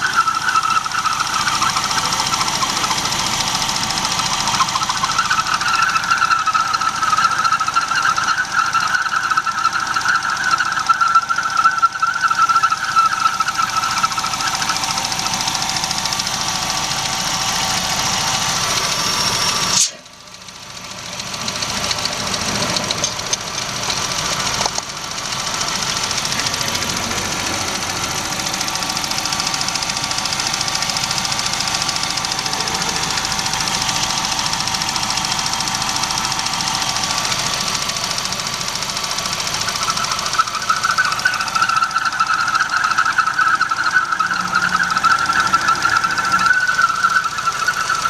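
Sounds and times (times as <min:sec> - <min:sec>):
high squeal: 0:00.0 - 0:20.2, 0:20.9 - 0:48.0
car engine running: 0:00.0 - 0:48.0.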